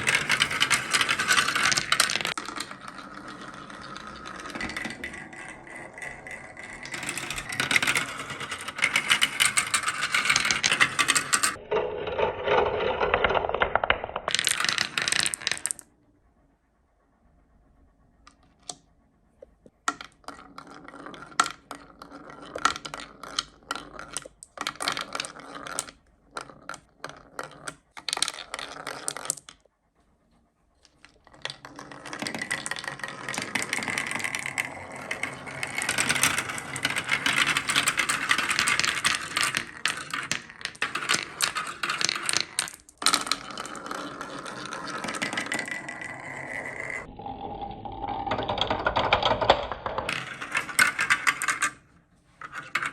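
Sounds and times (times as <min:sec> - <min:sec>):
marbles clattering down a track: 0:00.0 - 0:15.9, 0:19.9 - 0:29.6, 0:31.3 - 0:51.8, 0:52.4 - 0:52.9.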